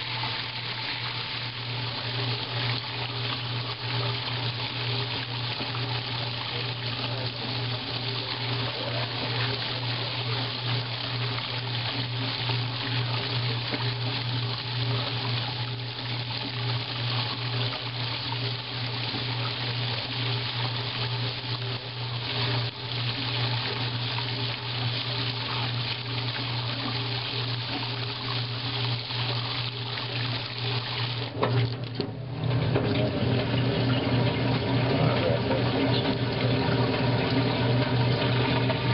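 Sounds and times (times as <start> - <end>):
soapy water churning in washing machine: 0.0 - 38.9
washing machine low hum: 0.0 - 38.9.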